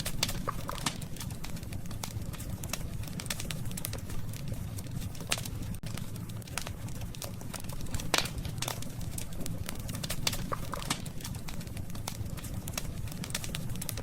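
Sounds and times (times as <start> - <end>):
campfire crackling and popping: 0.0 - 14.0
steady low rumble: 0.0 - 14.0.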